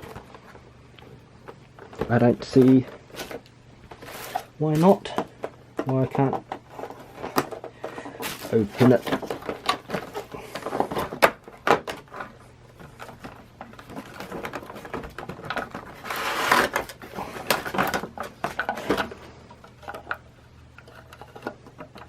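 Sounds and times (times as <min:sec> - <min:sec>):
plastic and cardboard rustling: 0:00.0 - 0:22.0.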